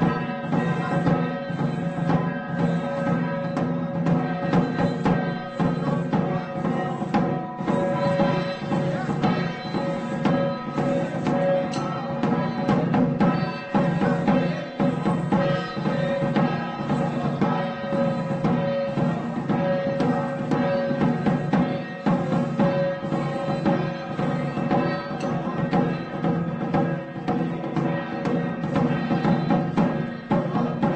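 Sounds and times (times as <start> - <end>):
drum and gong strikes: 0.0 - 30.9.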